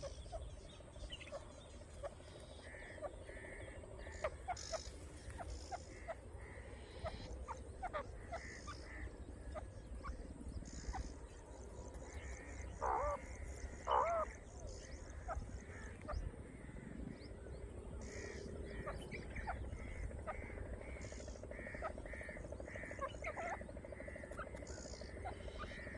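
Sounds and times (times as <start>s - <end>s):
bird harsh calls: 0.0s - 25.9s
steady low rumble: 0.0s - 25.9s.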